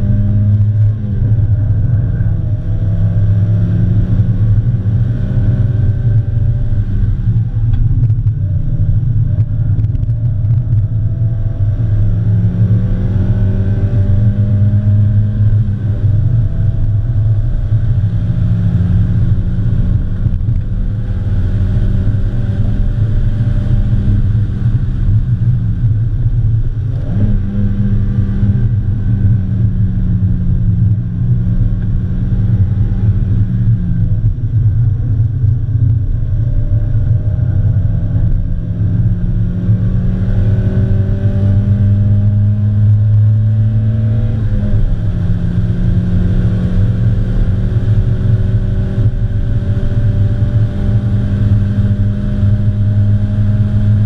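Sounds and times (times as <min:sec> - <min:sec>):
car engine running hard: 0:00.0 - 0:54.0
road and wind noise: 0:00.0 - 0:54.0.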